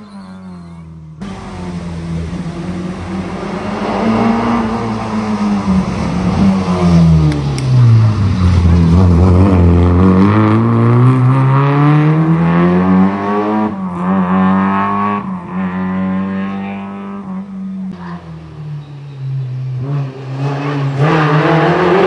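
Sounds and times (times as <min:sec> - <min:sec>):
car engine accelerating: 0:00.5 - 0:22.0.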